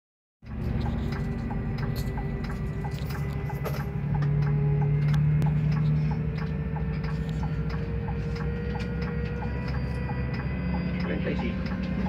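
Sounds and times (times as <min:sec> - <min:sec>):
coach engine drone: 0:00.4 - 0:12.0
faint whine: 0:00.5 - 0:12.0
light regular ticking: 0:00.5 - 0:12.0.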